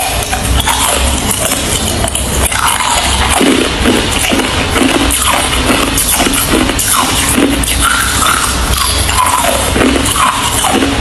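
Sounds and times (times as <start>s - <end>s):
ice being chewed: 0.0s - 11.0s
loud music: 0.0s - 11.0s.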